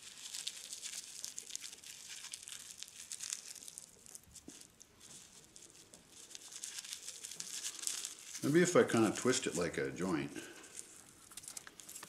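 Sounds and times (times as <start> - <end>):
rolling paper and tobacco crinkling: 0.0 - 12.0.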